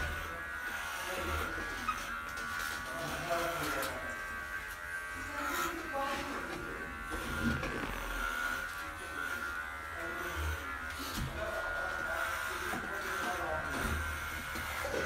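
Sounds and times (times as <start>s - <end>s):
electric clipper buzzing: 0.0s - 15.0s.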